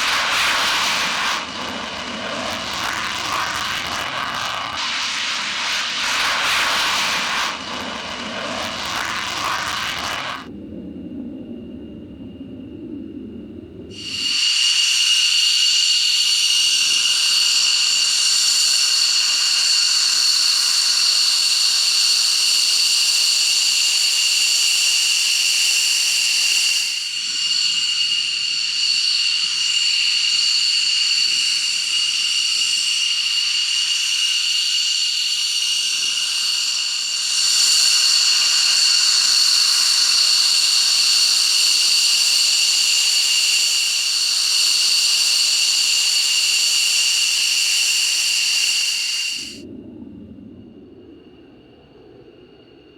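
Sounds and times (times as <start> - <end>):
jet engine whine: 0.0 - 52.9.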